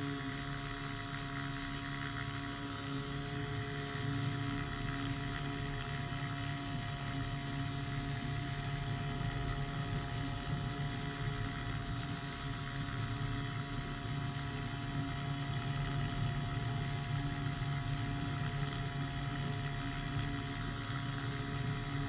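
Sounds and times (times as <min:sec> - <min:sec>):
hang glider engine drone: 0:00.0 - 0:22.0.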